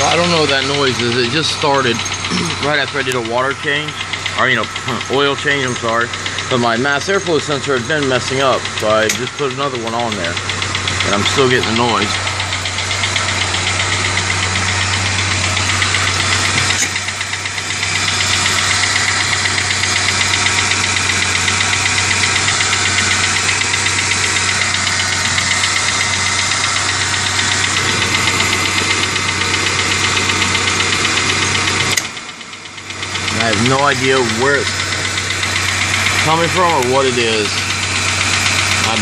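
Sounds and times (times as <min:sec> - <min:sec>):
car engine ticking: 0:00.0 - 0:39.0.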